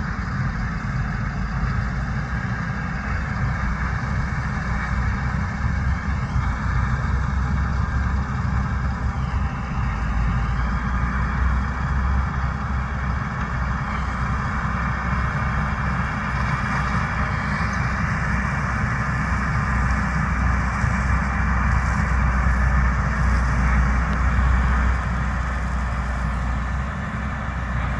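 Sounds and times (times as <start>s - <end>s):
harvest machinery rumbling: 0.0s - 27.9s.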